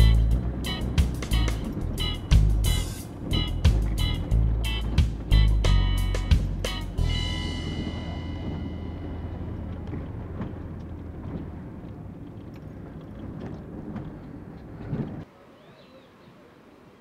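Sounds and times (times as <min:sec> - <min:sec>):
van interior engine rumble: 0:00.0 - 0:15.2.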